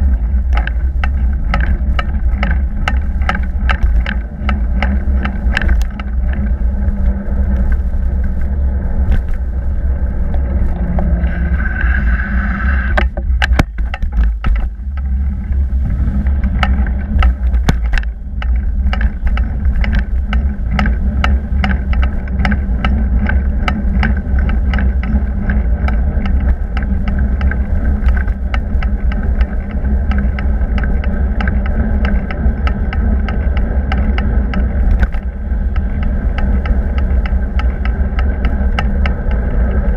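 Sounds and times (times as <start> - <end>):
bicycle clicks and rattles: 0.0 - 12.0, 13.0 - 39.9
wind and road rumble: 0.0 - 39.9.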